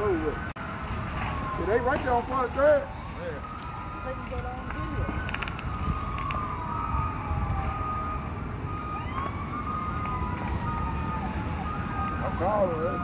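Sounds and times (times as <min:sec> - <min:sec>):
emergency vehicle sirens wailing: 0:00.0 - 0:13.0.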